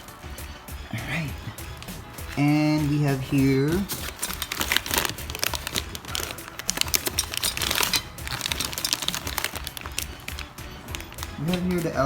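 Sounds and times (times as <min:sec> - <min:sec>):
background music: 0:00.0 - 0:12.0
packaging crinkling: 0:00.3 - 0:12.0.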